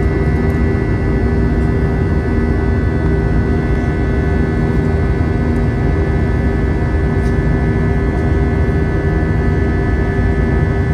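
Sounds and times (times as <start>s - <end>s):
jet engine cabin rumble: 0.0s - 10.9s
steady tonal hum: 0.0s - 10.9s.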